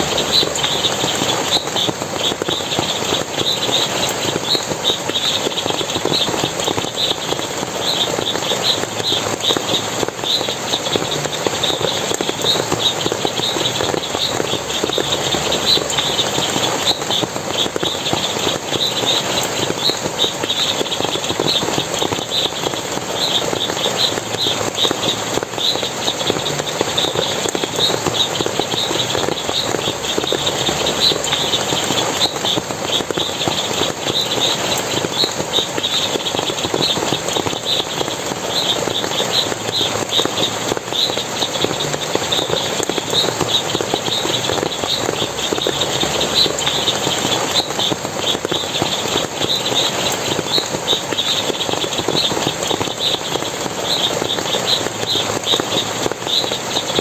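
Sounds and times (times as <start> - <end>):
water splashing and running: 0.0 - 57.0.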